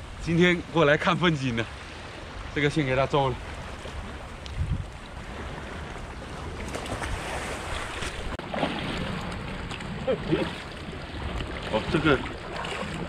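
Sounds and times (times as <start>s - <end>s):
surf washing over rocks: 0.0s - 13.0s
wind buffeting microphone: 1.7s - 13.0s.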